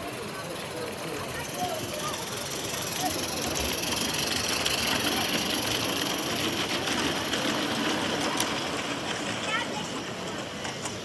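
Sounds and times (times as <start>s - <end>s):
model steam locomotive clattering: 0.0s - 11.0s
wagon wheels running over track: 0.0s - 11.0s.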